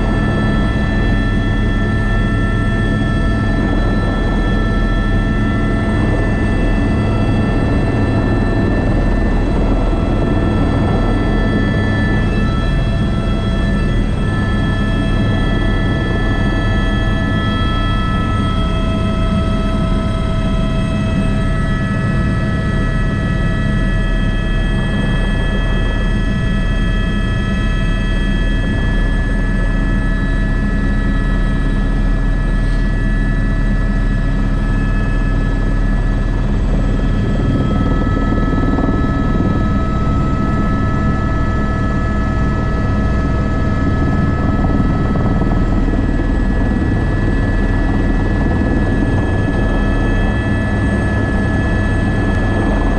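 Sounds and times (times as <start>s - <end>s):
helicopter rotor beat: 0.0s - 52.9s
helicopter turbine whine: 0.0s - 52.9s.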